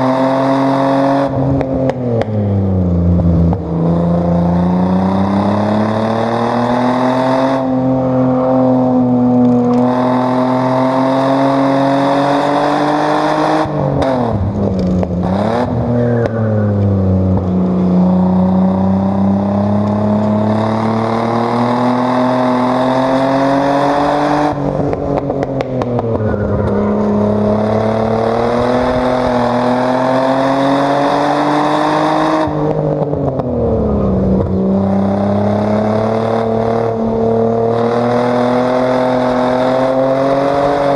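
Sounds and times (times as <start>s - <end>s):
car engine revving under load: 0.0s - 40.9s.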